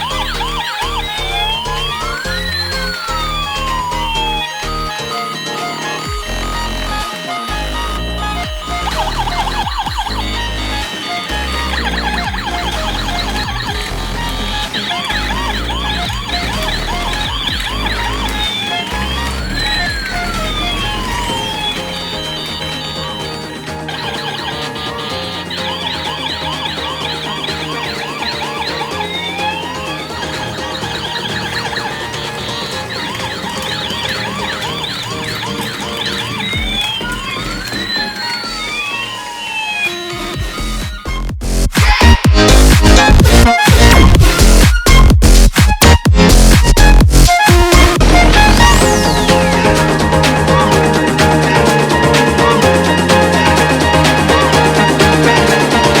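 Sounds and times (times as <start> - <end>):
background music with bass beat: 0.0 - 38.2, 40.2 - 56.0
electronic siren whooping: 0.0 - 56.0.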